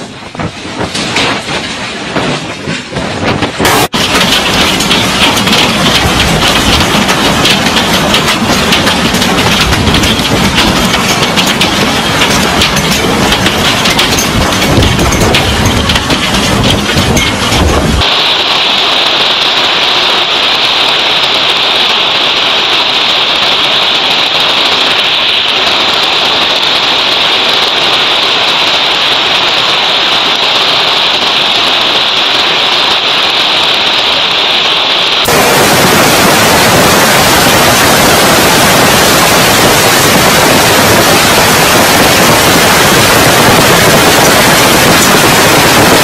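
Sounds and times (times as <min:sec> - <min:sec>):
hail and rain pelting down: 0:00.0 - 0:46.0.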